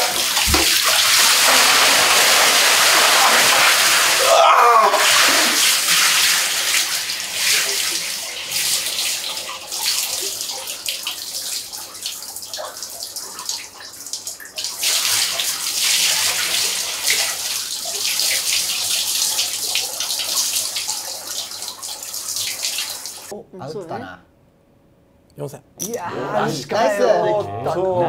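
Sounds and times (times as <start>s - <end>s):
water running into bathtub: 0.0s - 23.3s.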